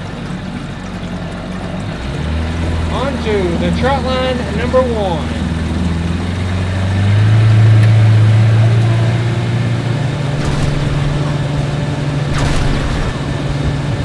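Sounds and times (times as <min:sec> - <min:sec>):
outboard motor droning: 0:00.0 - 0:14.0.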